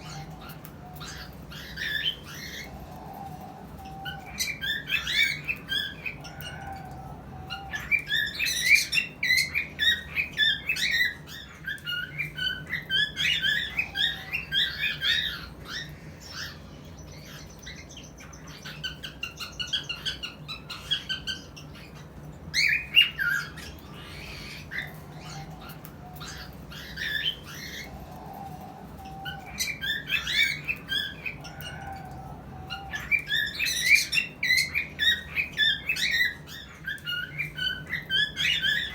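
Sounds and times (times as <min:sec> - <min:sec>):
cockatiels chirping and squawking: 0:00.0 - 0:38.9
faint low hum: 0:00.0 - 0:38.9.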